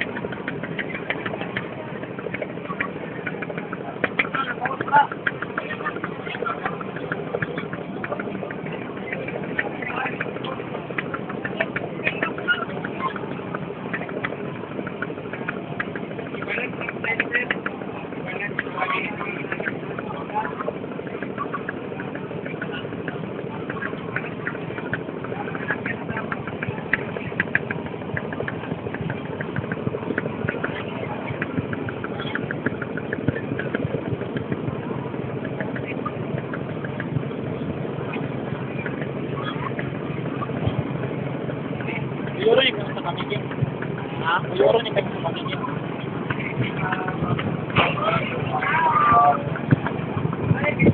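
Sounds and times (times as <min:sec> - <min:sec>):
boat engine running: 0:00.0 - 0:50.9
fast clatter of sharp ticks: 0:00.0 - 0:50.9.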